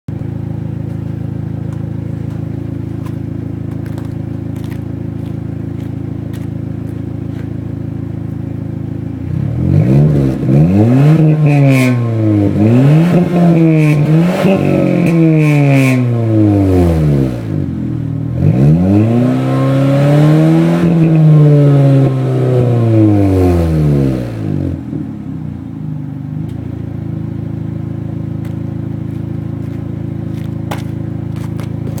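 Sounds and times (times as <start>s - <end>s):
car engine revving and idling: 0.1s - 32.0s.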